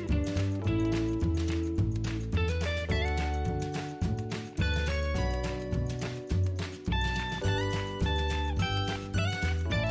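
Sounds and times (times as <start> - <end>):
instrumental background music: 0.0 - 9.9.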